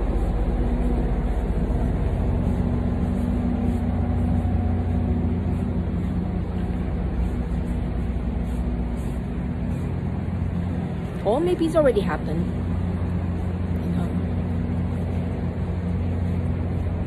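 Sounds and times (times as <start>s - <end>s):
engine humming nearby: 0.0s - 17.0s
street traffic rumble: 0.0s - 17.0s.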